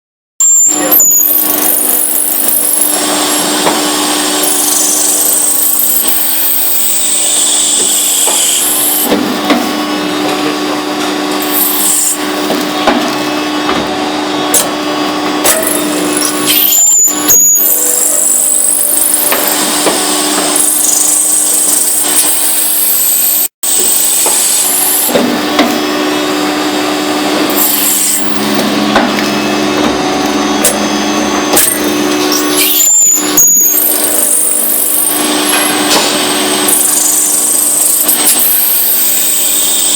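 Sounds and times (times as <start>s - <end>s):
high whines: 0.4s - 39.9s
machine tool running: 0.4s - 39.9s
cutting and scraping noise: 0.7s - 39.9s.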